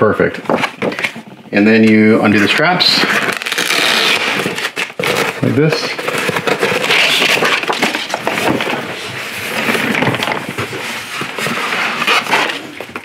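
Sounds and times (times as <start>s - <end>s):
packaging rustling and scraping: 0.4s - 13.0s.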